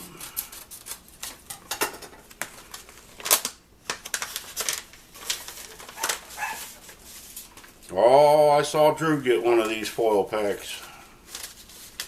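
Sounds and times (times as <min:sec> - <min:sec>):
paper packaging crinkling: 0:00.0 - 0:01.5, 0:02.2 - 0:12.0.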